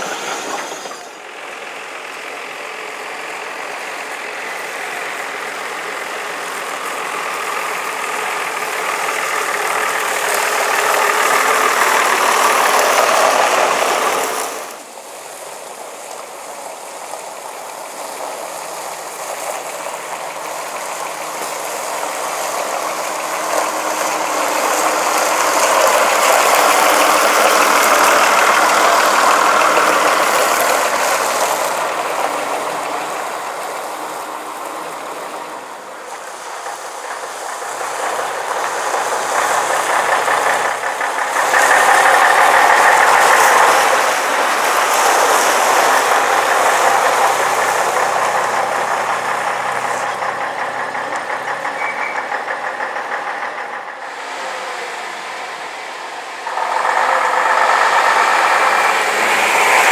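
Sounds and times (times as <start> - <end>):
clattery diesel engine passing: 0.0 - 59.9.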